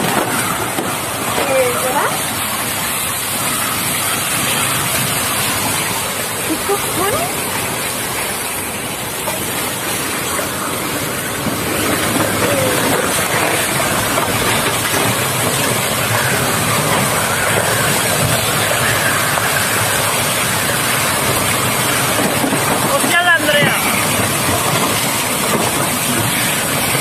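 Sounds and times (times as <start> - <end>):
driving rain: 0.0 - 27.0
storm wind: 0.0 - 27.0.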